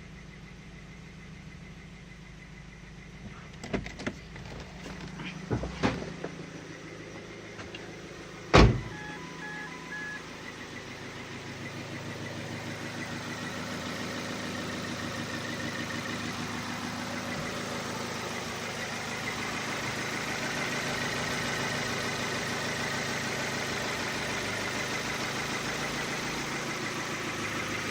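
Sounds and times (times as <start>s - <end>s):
car engine idling with knock: 0.0s - 27.9s.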